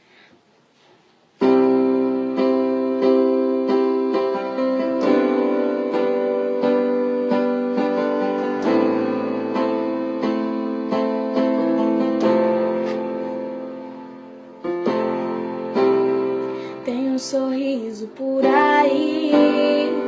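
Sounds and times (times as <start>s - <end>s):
piano chords: 1.4s - 20.0s.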